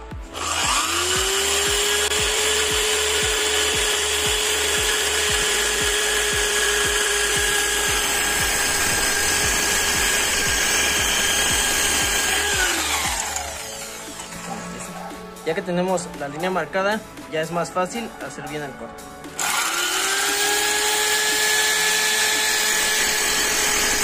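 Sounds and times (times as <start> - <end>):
electric drill cutting wood: 0.0 - 15.1, 19.4 - 24.0.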